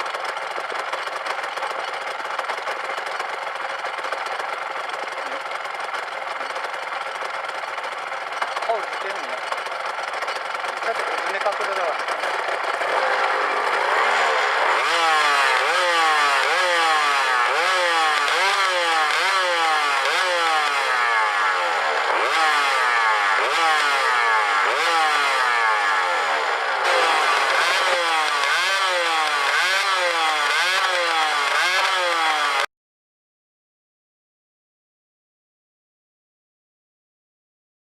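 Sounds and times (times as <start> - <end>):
motorcycle engine revving: 0.0 - 32.7.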